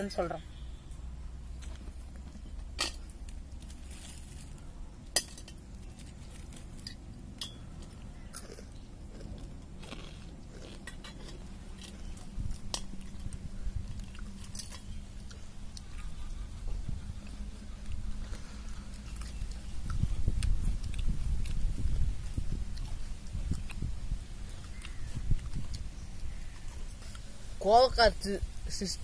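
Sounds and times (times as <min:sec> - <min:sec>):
people chewing crispy food: 0:00.5 - 0:29.0.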